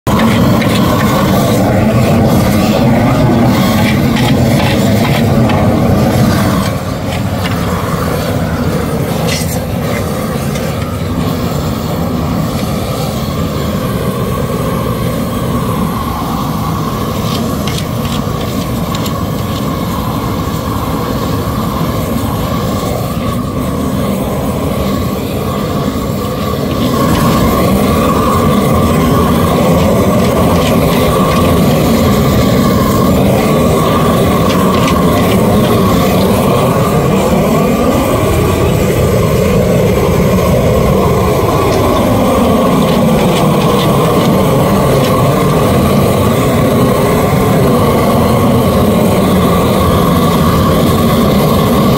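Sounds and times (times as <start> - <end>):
propane torch flame burning: 0.0 - 51.9.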